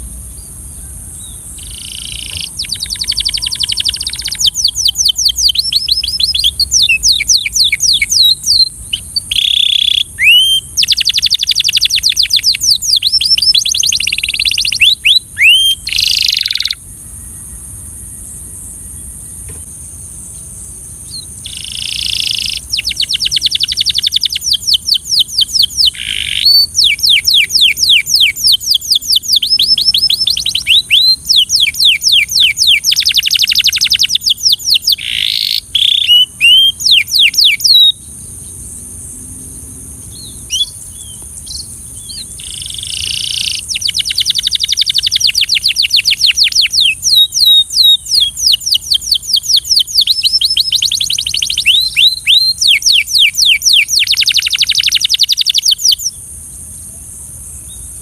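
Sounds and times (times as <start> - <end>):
canary singing trills: 0.0 - 17.8, 20.3 - 38.9, 40.0 - 56.2.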